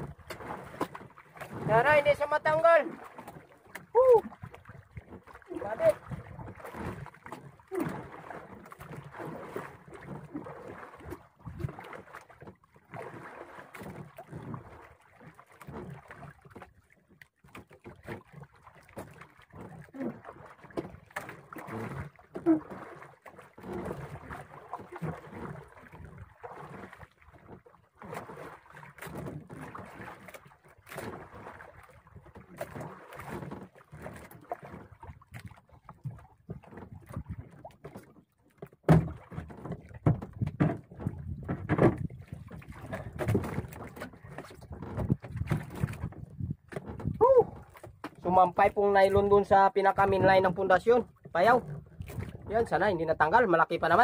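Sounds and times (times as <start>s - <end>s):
water lapping against a boat hull: 0.0s - 54.0s.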